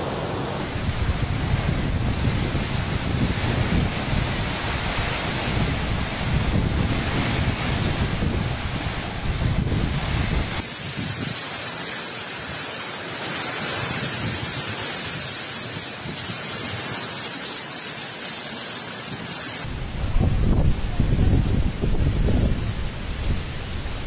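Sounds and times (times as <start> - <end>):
heavy rain pouring: 0.1 - 24.0
gusting wind rumble on microphone: 0.4 - 11.6, 13.4 - 17.3, 19.0 - 24.0.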